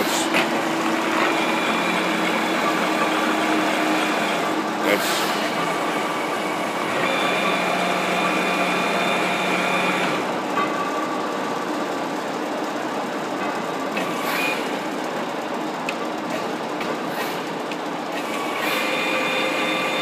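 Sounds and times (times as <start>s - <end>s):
steady whining tones: 0.0s - 16.2s
lathe humming with gear noise: 0.0s - 20.0s.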